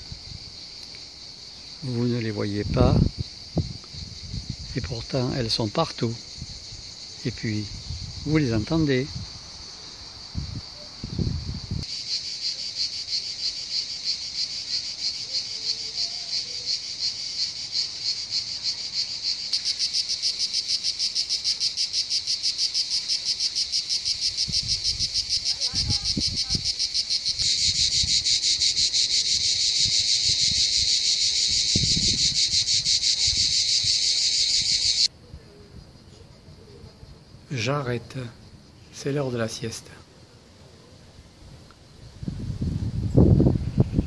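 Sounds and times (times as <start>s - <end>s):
cicadas buzzing: 0.0s - 44.0s.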